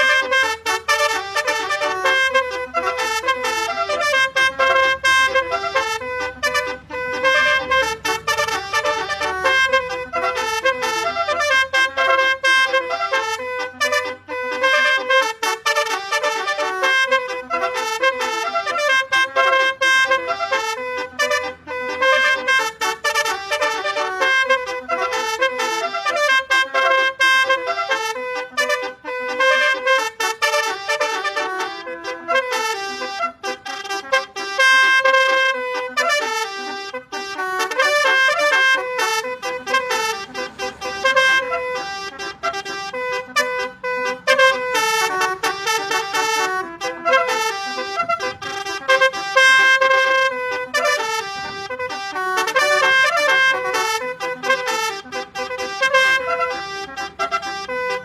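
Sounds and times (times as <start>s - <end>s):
multi-tone vehicle horn melody: 0.0s - 58.0s.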